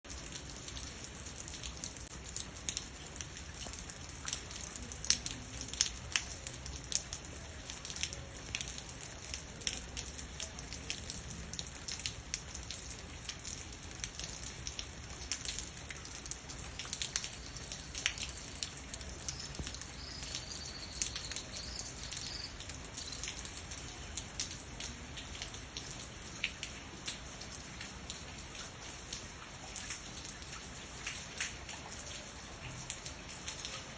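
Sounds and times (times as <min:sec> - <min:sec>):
raindrops dripping: 0:00.0 - 0:33.9.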